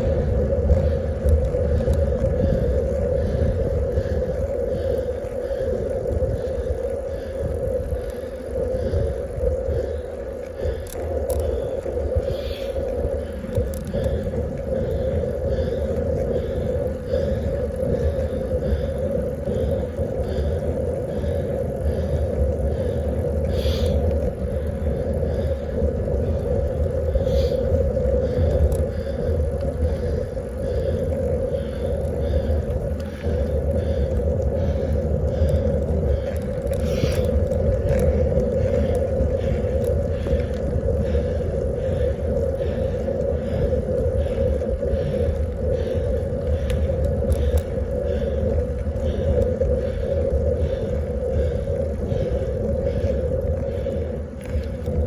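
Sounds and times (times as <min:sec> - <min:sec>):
bicycle tyre noise: 0:00.0 - 0:55.0
wind rumble on microphone: 0:00.0 - 0:55.0.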